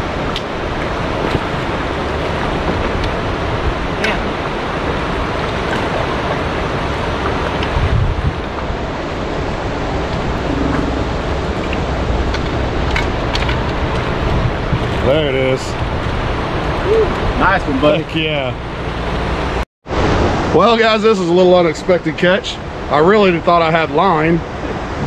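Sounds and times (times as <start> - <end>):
rushing water: 0.0 - 25.0
wind buffeting microphone: 0.0 - 25.0.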